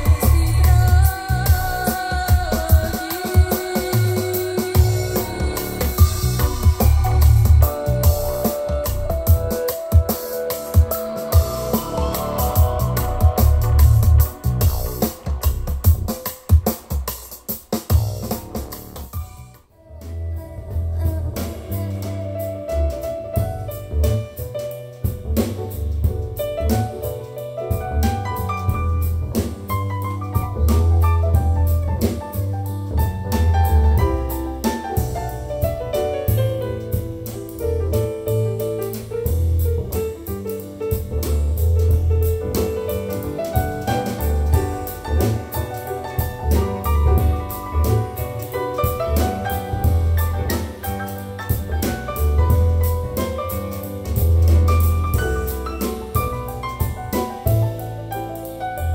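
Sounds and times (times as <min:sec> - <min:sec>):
bass line: 0:00.0 - 0:16.9, 0:17.7 - 0:58.9
drum kit: 0:00.0 - 0:58.9
piano: 0:00.0 - 0:58.9.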